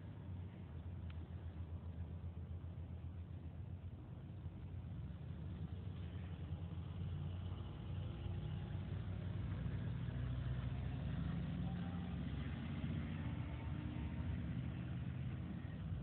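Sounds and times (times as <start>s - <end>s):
truck engine driving past: 0.0s - 16.0s.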